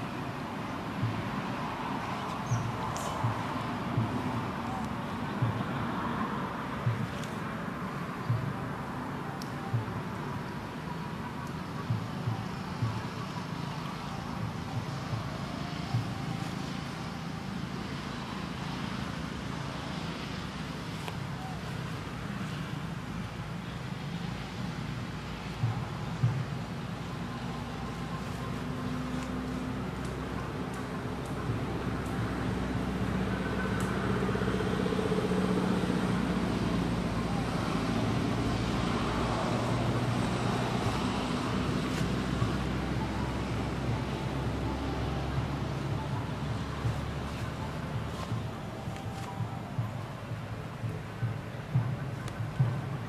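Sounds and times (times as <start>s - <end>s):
low rumbling background noise: 0.0s - 53.0s.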